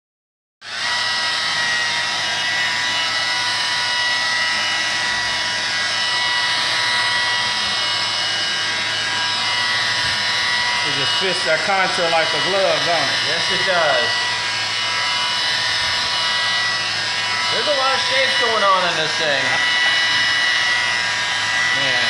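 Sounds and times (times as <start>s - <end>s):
electric polisher whine: 0.6s - 22.0s.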